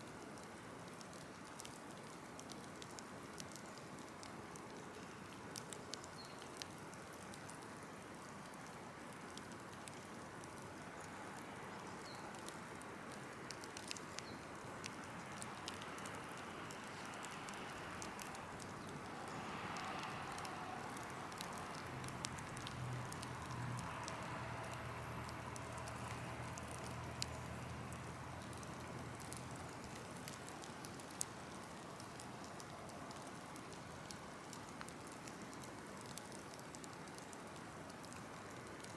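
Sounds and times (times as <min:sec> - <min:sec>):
fire crackling: 0:00.1 - 0:38.9.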